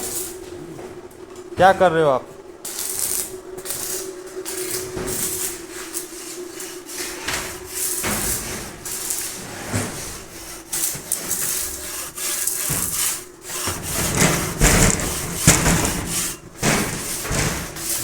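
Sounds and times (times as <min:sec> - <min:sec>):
arc welding crackling sizzle: 0:00.0 - 0:18.0.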